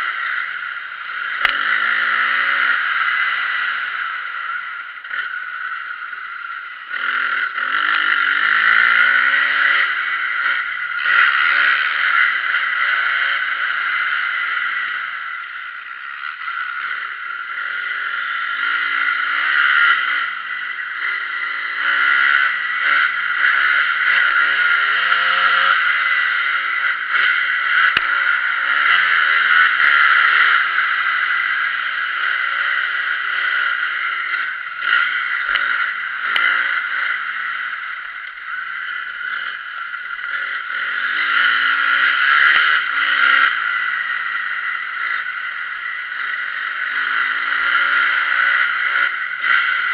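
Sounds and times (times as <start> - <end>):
motocross motorcycle engine revving: 0.0 - 49.9.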